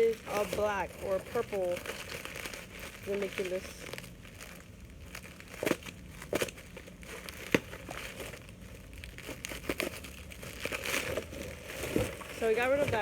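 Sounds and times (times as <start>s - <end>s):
plastic packaging crinkling: 0.0s - 13.0s
sharp plastic crackles: 0.0s - 13.0s.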